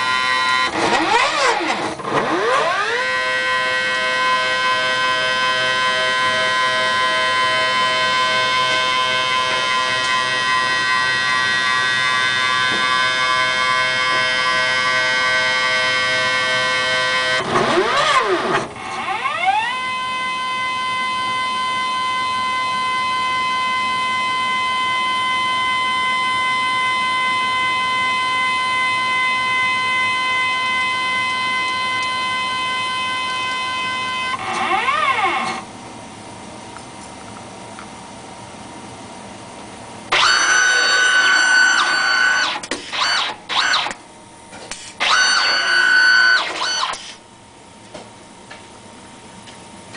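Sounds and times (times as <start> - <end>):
motors whining: 0.0 - 35.7, 40.1 - 44.0, 44.7 - 47.2.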